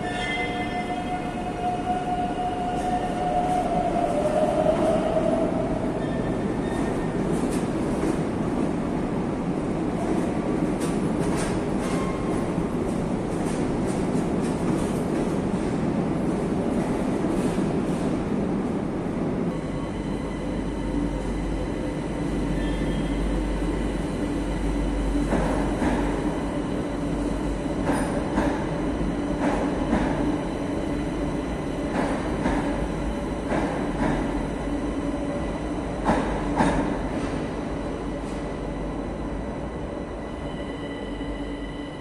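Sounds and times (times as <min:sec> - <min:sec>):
train rumble and hum: 0:00.0 - 0:42.0.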